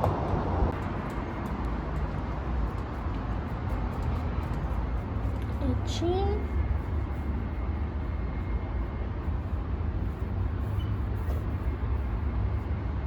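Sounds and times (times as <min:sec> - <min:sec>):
wind rumble on microphone: 0:00.0 - 0:13.0
electric fan running: 0:00.4 - 0:13.0.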